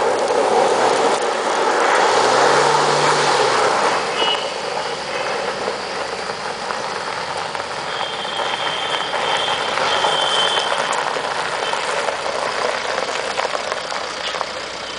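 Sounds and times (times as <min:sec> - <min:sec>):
diesel engine running: 0:00.0 - 0:14.9
tyres scrubbing over gravel: 0:00.0 - 0:14.9.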